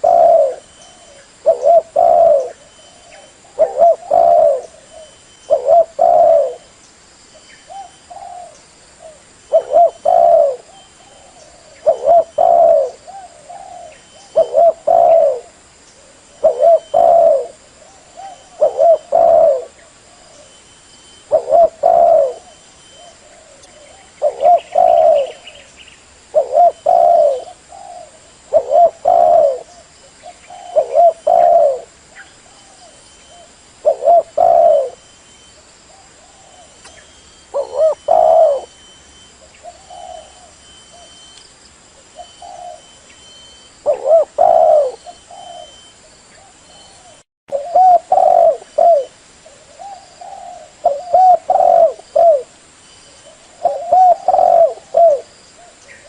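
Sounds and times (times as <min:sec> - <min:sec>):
dove cooing: 0:00.0 - 0:06.7, 0:07.7 - 0:20.6, 0:21.2 - 0:25.7, 0:26.3 - 0:35.1, 0:35.9 - 0:41.3, 0:42.0 - 0:56.0.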